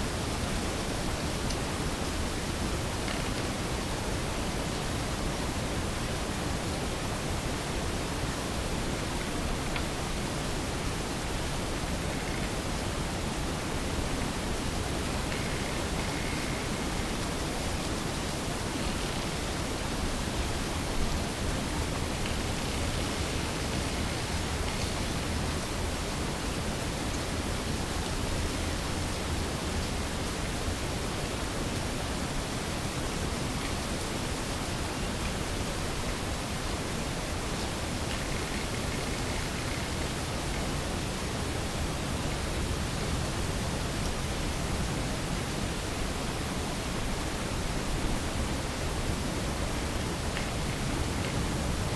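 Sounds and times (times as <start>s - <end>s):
recorder hiss: 0.0s - 51.9s.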